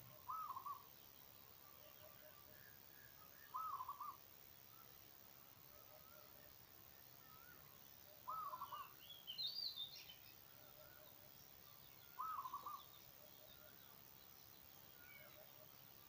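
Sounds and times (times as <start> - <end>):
bird twittering chirps: 0.0 - 5.0, 5.7 - 16.0
distant bird calls: 0.0 - 16.0.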